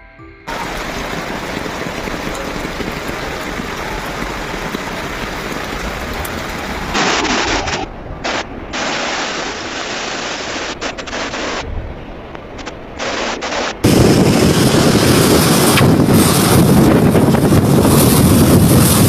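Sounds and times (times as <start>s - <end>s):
heavy rain downpour: 0.5s - 19.0s
rushing floodwater: 0.5s - 19.0s.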